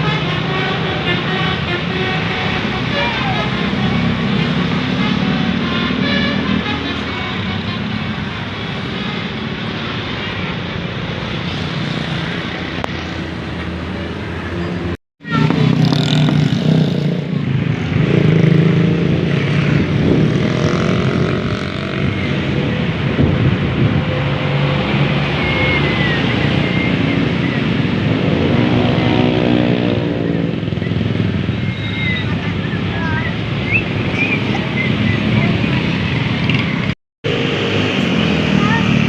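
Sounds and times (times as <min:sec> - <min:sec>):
bus engine drone: 0:00.0 - 0:39.0
buses passing on road: 0:00.0 - 0:39.0.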